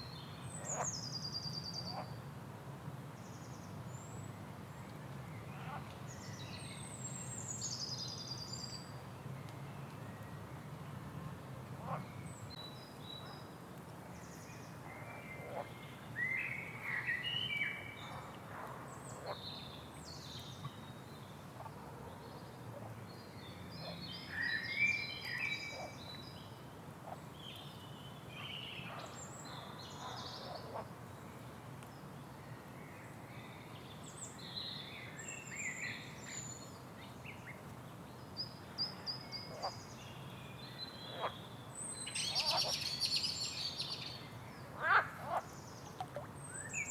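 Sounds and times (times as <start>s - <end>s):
faint low background noise: 0.0s - 46.9s.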